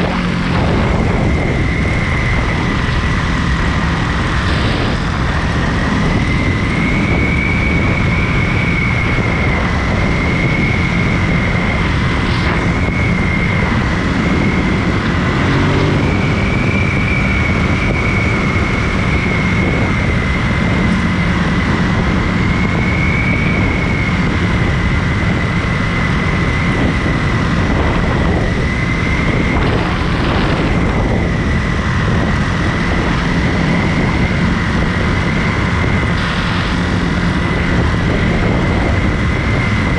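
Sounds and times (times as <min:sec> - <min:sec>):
high whine: 0:00.0 - 0:39.9
motorcycle engine cruising: 0:00.0 - 0:39.9
wind noise on microphone: 0:00.0 - 0:39.9.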